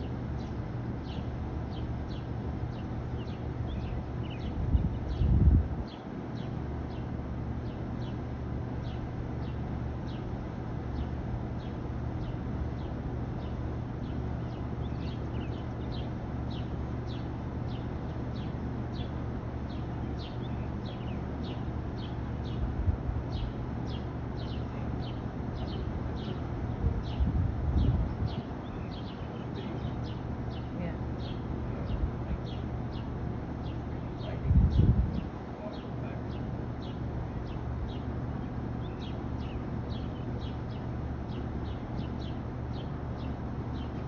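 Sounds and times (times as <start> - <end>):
bird chirping: 0.0 - 10.3, 11.0 - 22.7, 23.3 - 44.0.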